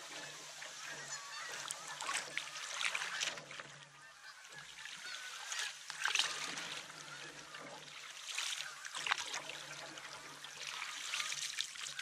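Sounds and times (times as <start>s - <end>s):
birds calling: 0.0s - 10.5s
paddle splashing in water: 0.0s - 12.0s.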